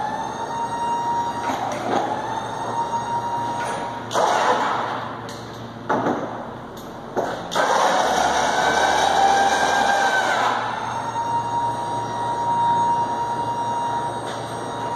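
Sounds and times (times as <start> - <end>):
hoist motor whining: 0.0 - 4.6, 7.4 - 14.9.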